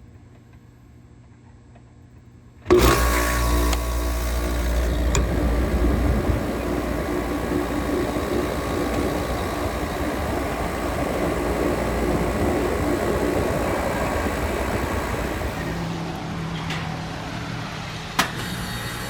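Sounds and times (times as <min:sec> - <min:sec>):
air conditioner unit running: 0:01.9 - 0:17.2.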